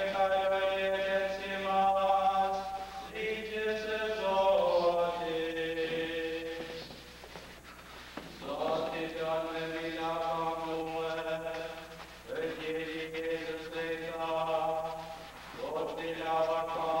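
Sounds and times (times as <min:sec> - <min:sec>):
voices singing a slow chant: 0:00.0 - 0:06.9, 0:08.4 - 0:17.0.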